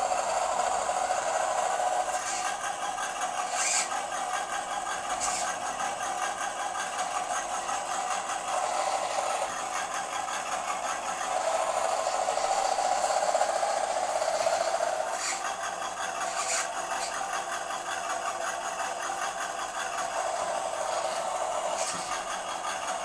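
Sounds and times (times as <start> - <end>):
toy car motor whining: 0.0 - 22.8.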